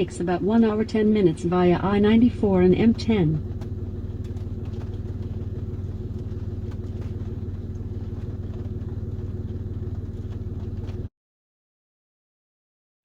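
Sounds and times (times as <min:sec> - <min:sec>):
car engine running: 0:00.0 - 0:11.1.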